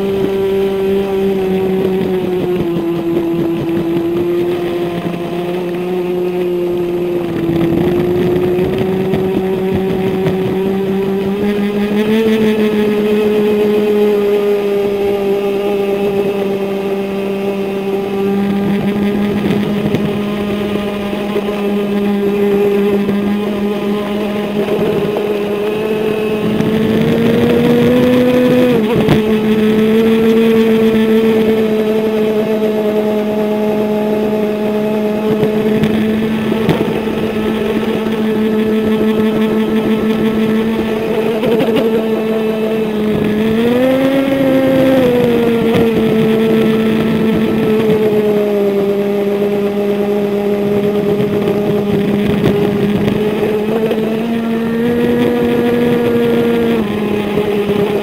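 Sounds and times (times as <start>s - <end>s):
boat motor whine: 0.0s - 58.0s.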